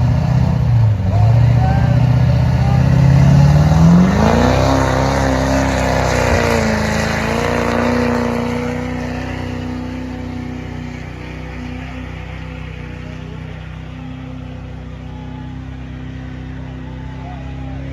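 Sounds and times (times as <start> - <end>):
engine revving under load: 0.0 - 17.9.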